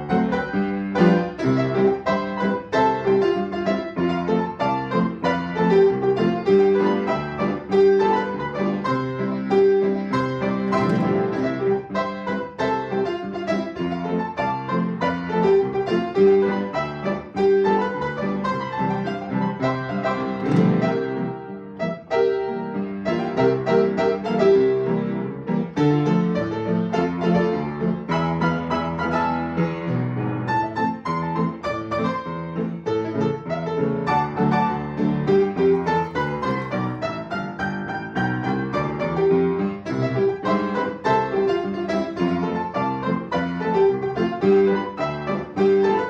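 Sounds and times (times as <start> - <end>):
solo piano playing lively piece: 0.0 - 46.0.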